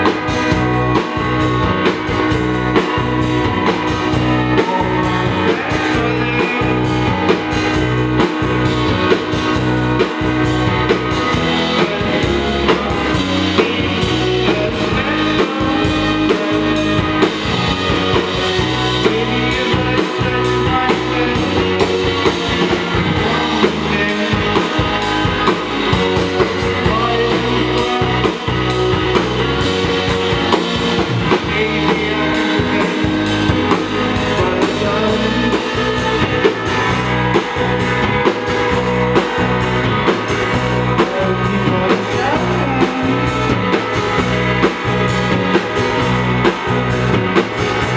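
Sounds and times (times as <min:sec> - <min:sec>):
drum kit beat: 0:00.0 - 0:47.9
electric bass: 0:00.0 - 0:47.9
electric guitar: 0:00.0 - 0:47.9
man singing: 0:02.8 - 0:47.0.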